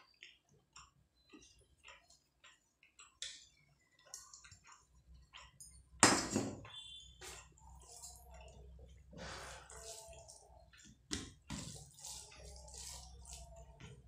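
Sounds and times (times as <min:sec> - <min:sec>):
wet chewing: 0:00.0 - 0:06.0, 0:06.6 - 0:14.0.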